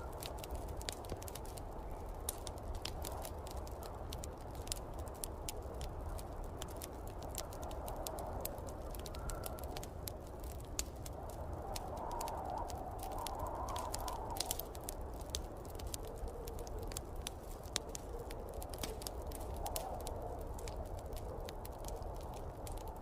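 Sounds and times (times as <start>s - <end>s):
howling wind: 0.0s - 23.0s
wood fire crackling and popping: 0.0s - 23.0s.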